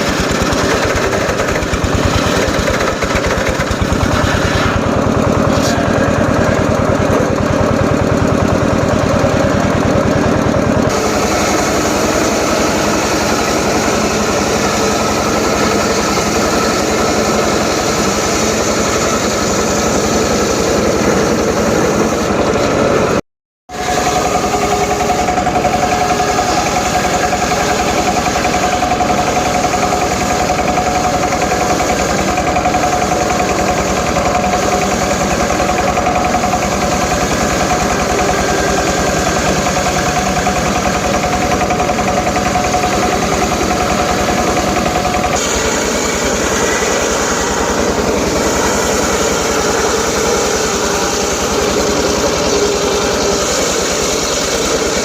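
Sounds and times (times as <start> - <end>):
circular sawmill sawing timber: 0.0 - 55.0.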